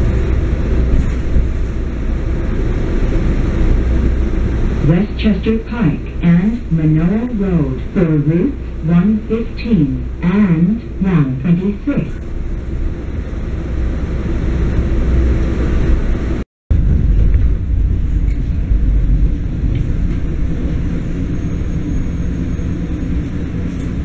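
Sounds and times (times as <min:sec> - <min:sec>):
low rumble inside a bus: 0:00.0 - 0:24.0
low rumble inside a subway train: 0:00.0 - 0:24.0.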